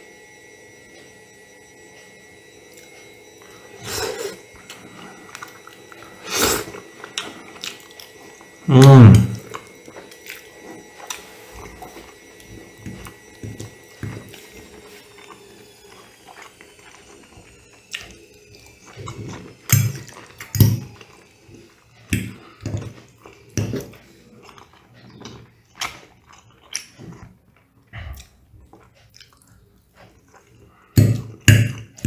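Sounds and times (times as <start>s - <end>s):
wet chewing and mouth noises: 2.8s - 8.6s, 9.2s - 32.0s.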